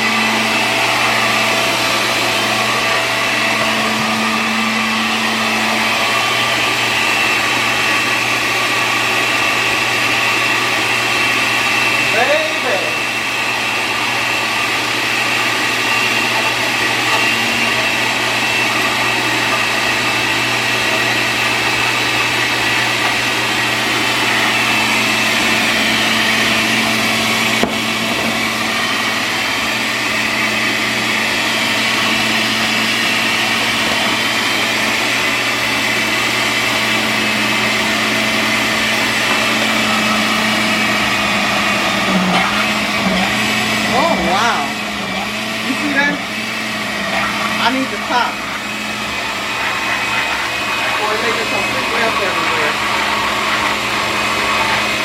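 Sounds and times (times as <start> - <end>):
blender motor running: 0.0 - 55.0.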